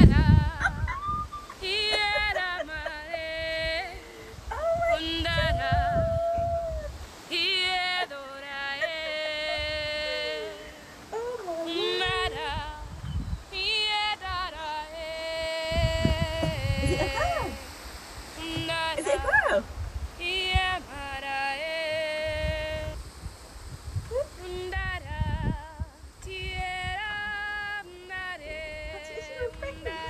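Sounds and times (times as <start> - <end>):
woman singing unaccompanied: 0.0 - 23.0, 24.1 - 30.0.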